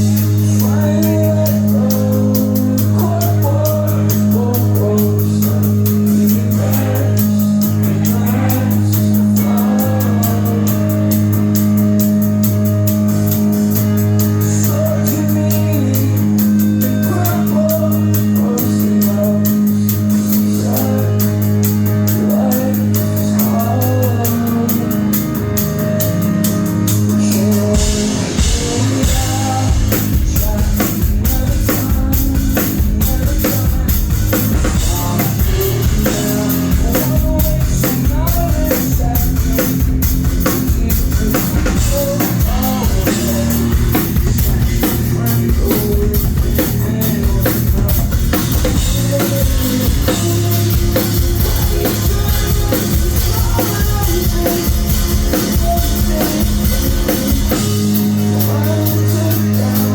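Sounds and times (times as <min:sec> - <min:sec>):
drum kit beat: 0:00.0 - 0:59.9
guitar and bass chords: 0:00.0 - 0:59.9.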